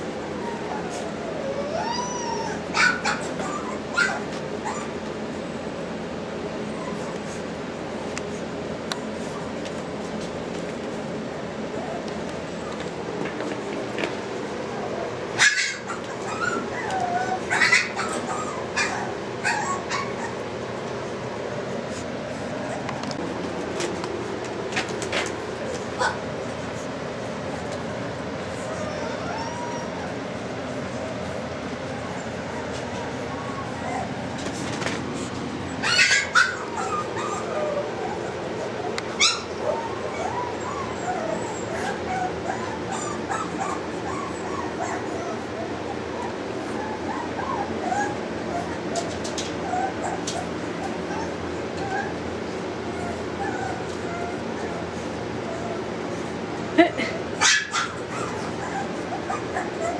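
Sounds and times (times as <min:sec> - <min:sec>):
puppies whimpering and yipping: 0:00.0 - 0:59.9.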